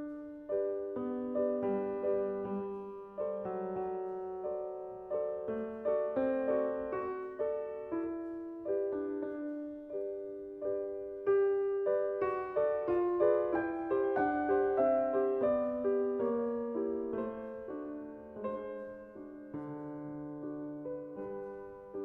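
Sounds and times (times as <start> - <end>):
slow gentle piano melody: 0.0 - 22.0.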